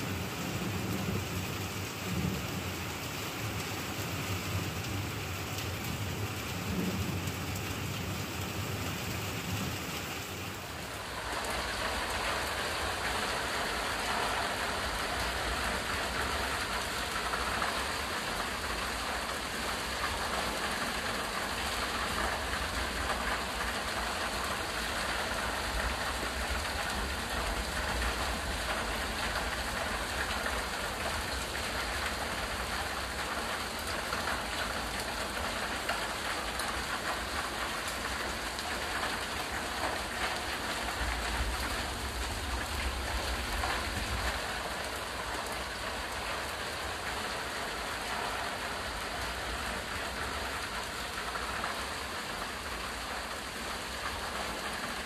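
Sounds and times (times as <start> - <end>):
hail and rain on stone paving: 0.0 - 55.0.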